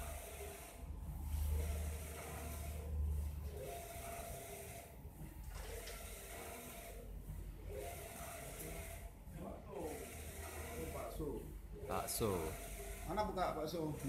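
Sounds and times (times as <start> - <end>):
printer carriage whirring: 0.0 - 14.0
steady low hum: 0.0 - 14.0.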